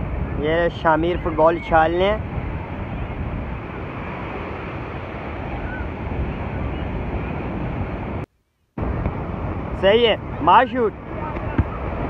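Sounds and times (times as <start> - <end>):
wind buffeting microphone: 0.0 - 8.2, 8.8 - 12.0
ocean surf breaking: 0.0 - 12.0.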